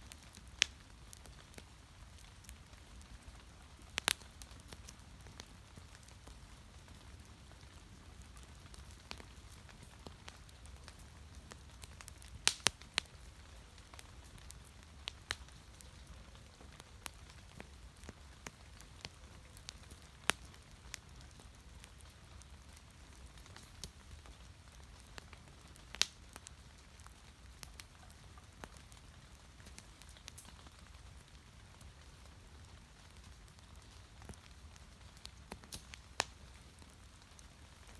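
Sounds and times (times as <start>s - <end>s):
wood fire crackling and popping: 0.0s - 37.9s.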